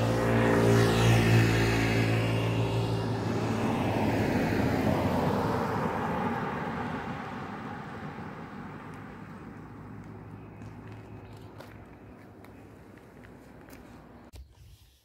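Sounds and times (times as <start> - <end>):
car passing: 0.0 - 14.3.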